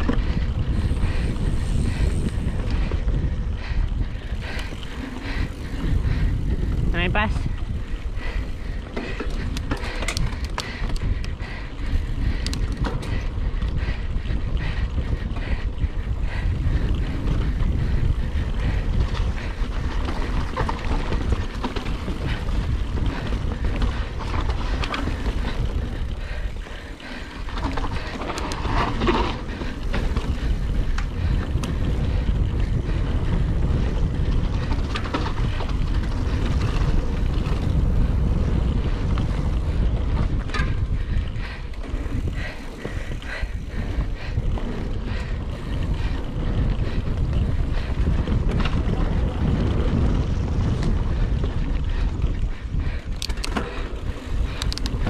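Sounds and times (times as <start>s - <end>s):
bike clicks and rattles: 0.0s - 55.0s
wind buffeting microphone: 0.0s - 55.0s.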